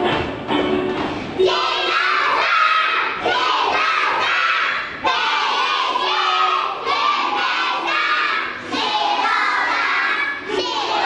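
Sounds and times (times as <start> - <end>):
children singing in unison: 1.4 - 11.0.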